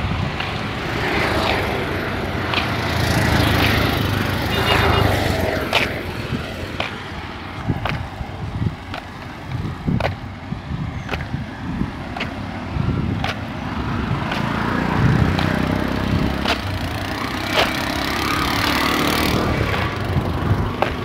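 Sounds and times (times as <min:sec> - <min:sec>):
auto-rickshaws passing: 0:00.0 - 0:08.2, 0:12.4 - 0:21.0.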